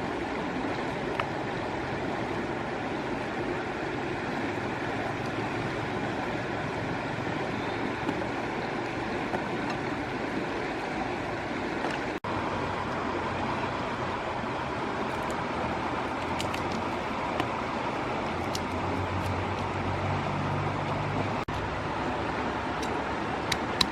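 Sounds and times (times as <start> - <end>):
flowing river water: 0.0 - 23.9.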